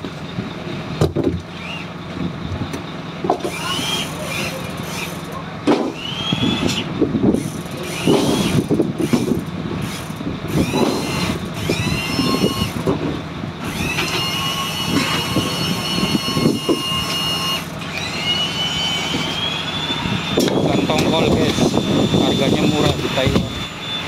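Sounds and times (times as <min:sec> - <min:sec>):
winch motor whining: 0:01.0 - 0:24.0
steady low hum: 0:01.6 - 0:24.0.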